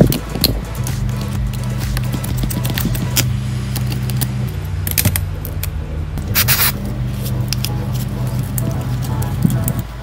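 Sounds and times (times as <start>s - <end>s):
low background music: 0.0s - 10.0s.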